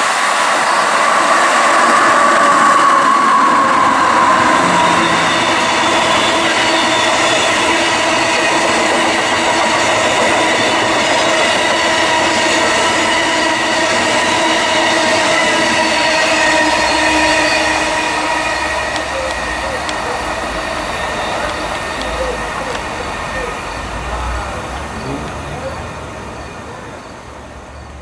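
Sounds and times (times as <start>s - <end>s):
steady whining tones: 0.0s - 28.0s
train wheels rushing on rails: 0.0s - 28.0s.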